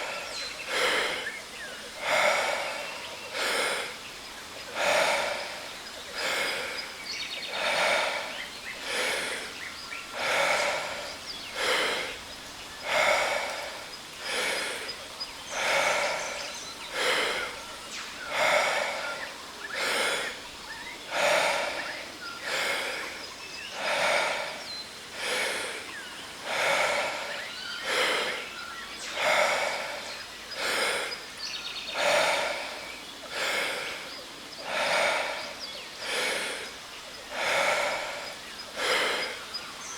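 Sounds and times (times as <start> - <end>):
deep breaths through the mouth: 0.0 - 39.9
waterfall hiss: 0.0 - 39.9.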